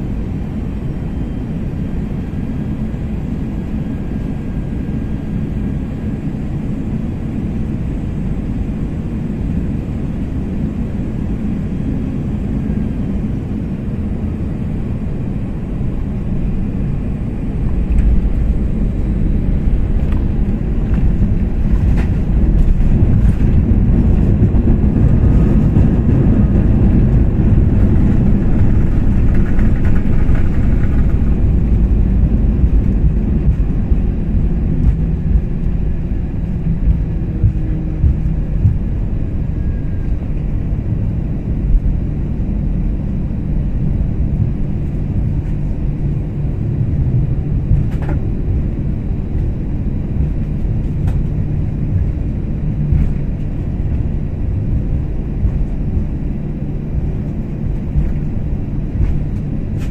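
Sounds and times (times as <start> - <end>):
jet engine and airflow rush: 0.0 - 59.9.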